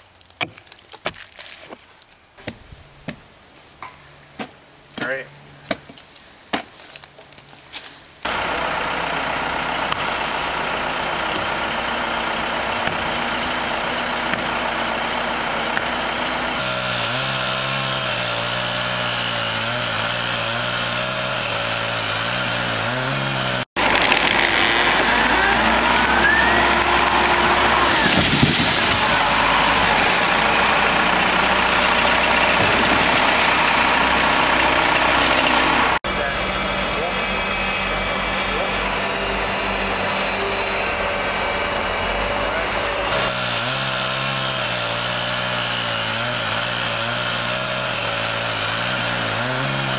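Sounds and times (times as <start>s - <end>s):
heavy machinery engine running: 8.2s - 49.9s.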